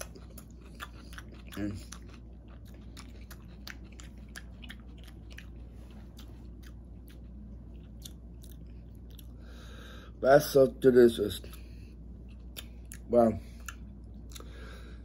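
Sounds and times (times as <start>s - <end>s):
person chewing salad: 0.0s - 9.7s, 11.4s - 15.0s
steady low hum: 0.0s - 15.0s.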